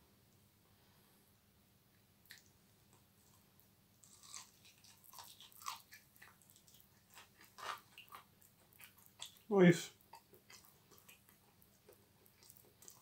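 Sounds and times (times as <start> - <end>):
crunching and chewing: 2.2 - 13.0.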